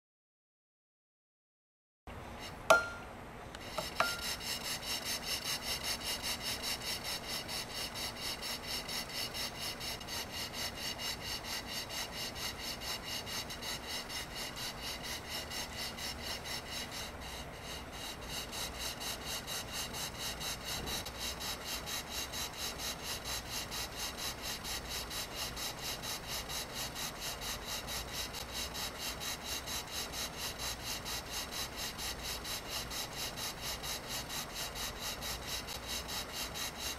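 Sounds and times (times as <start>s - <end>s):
steam engine hissing beats: 3.6s - 36.9s.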